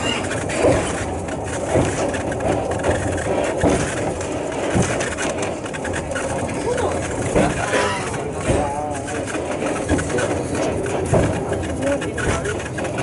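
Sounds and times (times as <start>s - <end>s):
train engine drone: 0.0s - 13.0s
wheels on rail: 0.0s - 13.0s.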